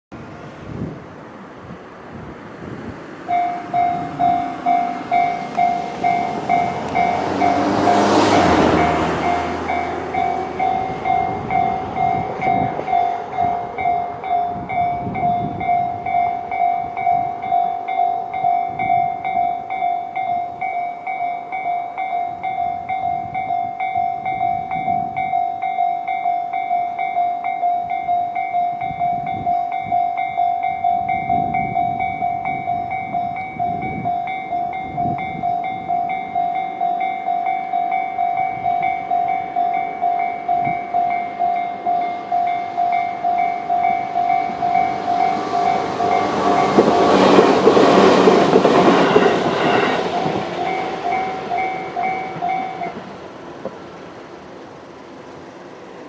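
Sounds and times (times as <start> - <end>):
passing train: 0.1 - 56.0
level crossing alarm bells ringing: 3.3 - 53.1.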